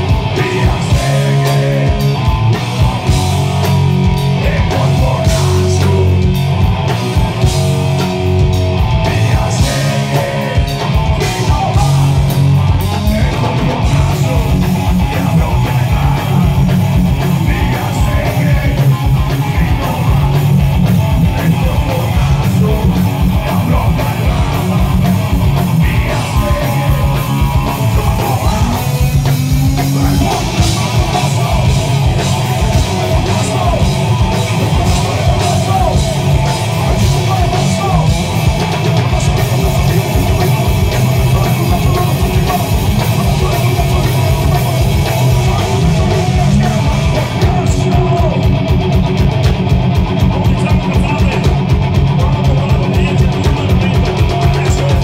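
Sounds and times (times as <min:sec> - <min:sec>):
singer's vocals: 0:00.0 - 0:06.4, 0:08.8 - 0:48.7, 0:50.2 - 0:55.0
bass guitar: 0:00.0 - 0:55.0
electric guitars: 0:00.0 - 0:55.0
fast driving drum beat: 0:00.0 - 0:55.0.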